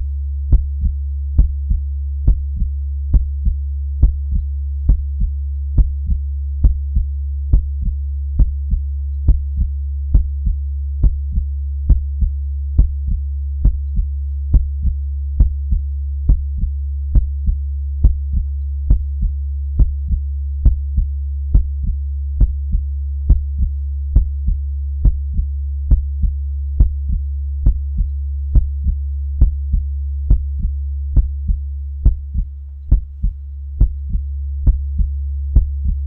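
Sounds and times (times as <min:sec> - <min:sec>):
heartbeat thumps: 0:00.0 - 0:36.0
low hum: 0:00.0 - 0:36.0.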